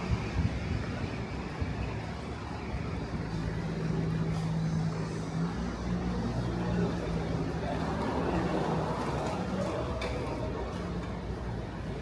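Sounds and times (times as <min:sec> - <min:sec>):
bus rumble: 0:00.0 - 0:12.0.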